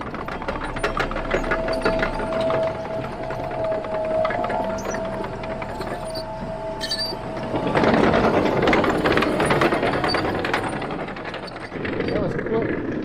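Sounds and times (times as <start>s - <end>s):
heavy machinery whine: 0.0s - 12.4s
loud rattling and clattering: 0.0s - 13.0s.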